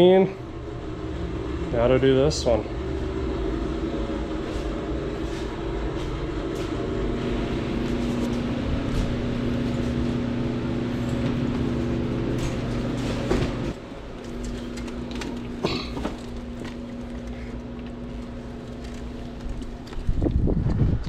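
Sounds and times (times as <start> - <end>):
pressure washer motor running: 0.0 - 20.1.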